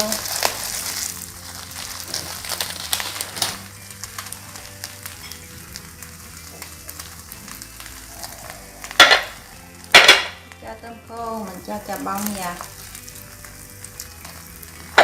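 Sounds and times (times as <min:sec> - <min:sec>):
egg sizzling in a pan: 0:00.0 - 0:15.0.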